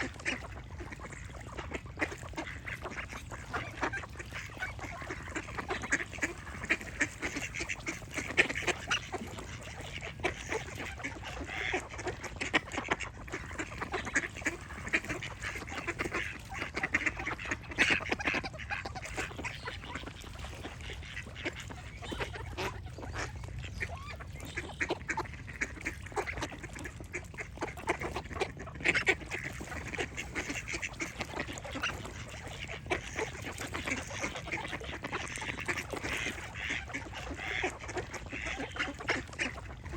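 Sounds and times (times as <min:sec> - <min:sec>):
flock of ducks quacking: 0:00.0 - 0:39.9.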